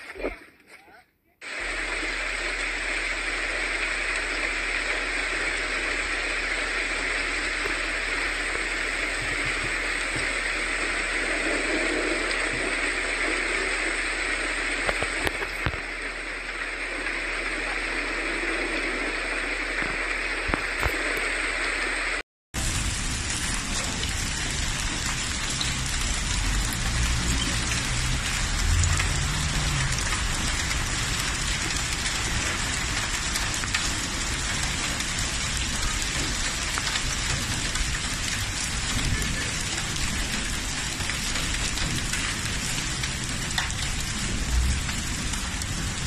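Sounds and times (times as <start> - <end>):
hailstones ticking on hard surfaces: 1.4 - 21.4, 22.6 - 46.0
heavy rain hissing: 1.4 - 46.0.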